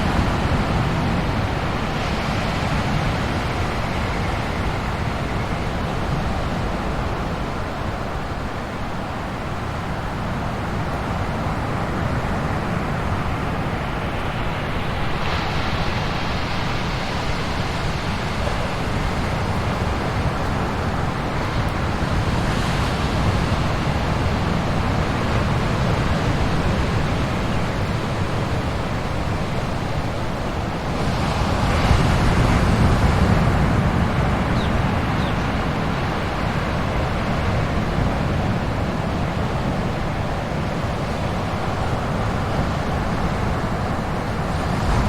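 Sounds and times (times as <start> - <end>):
ocean waves breaking: 0.0 - 45.0.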